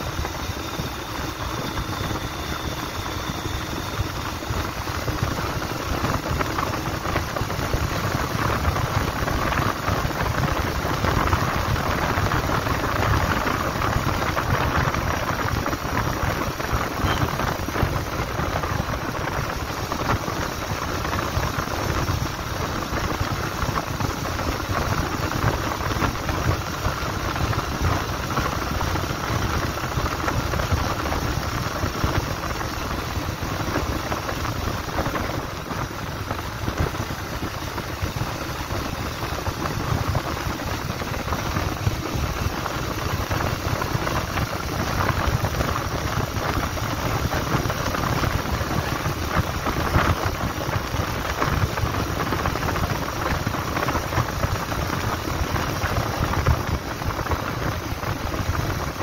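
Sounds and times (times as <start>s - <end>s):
motorcycle engine cruising: 0.0s - 51.3s.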